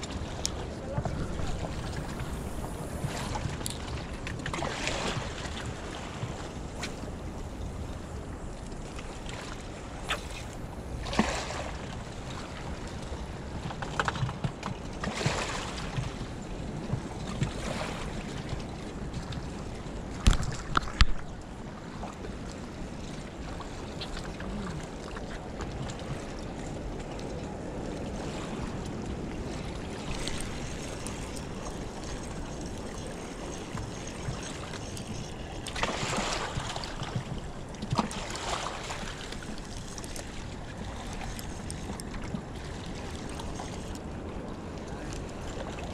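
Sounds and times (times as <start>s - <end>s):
waves lapping on rocky shore: 0.0s - 45.9s
wind on microphone: 0.0s - 45.9s.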